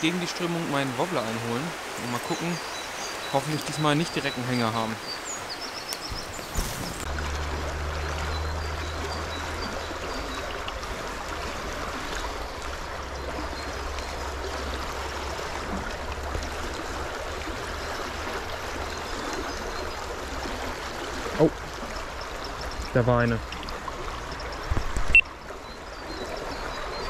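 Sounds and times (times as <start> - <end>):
brook rushing over stones: 0.0 - 25.2.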